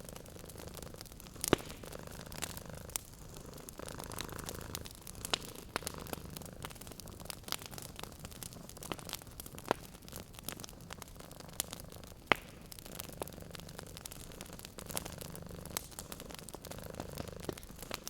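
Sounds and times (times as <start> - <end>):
cat purring: 0.0 - 18.0
wood fire crackling: 0.0 - 18.0.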